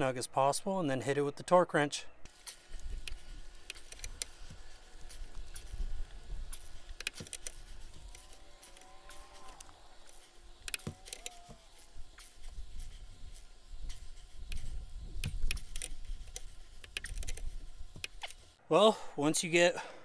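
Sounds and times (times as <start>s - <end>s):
torque wrench clicking: 2.3s - 18.6s.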